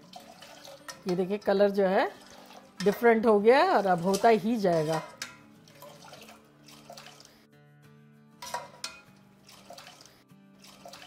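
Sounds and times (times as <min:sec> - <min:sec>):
ladle splashing tea in pot: 0:00.0 - 0:07.4, 0:08.4 - 0:11.0
faint background music: 0:00.0 - 0:11.0.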